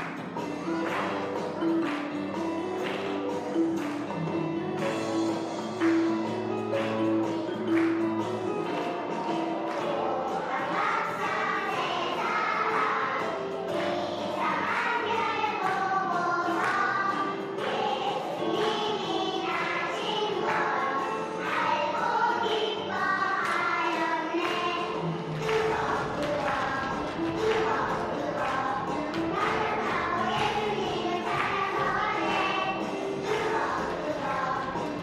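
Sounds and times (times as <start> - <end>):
children's choir singing: 0.0 - 35.0
musical accompaniment: 0.0 - 35.0.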